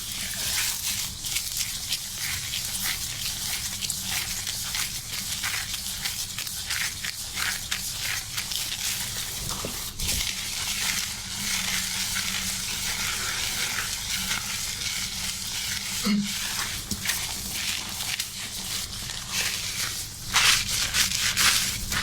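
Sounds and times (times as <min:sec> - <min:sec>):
shampoo lather rustling in hair: 0:00.0 - 0:22.0.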